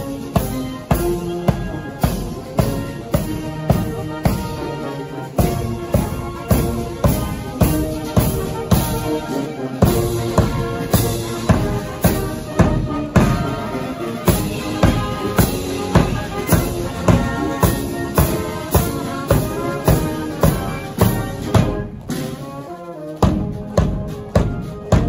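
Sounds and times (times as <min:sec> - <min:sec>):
brass band playing a march: 0:00.0 - 0:25.0.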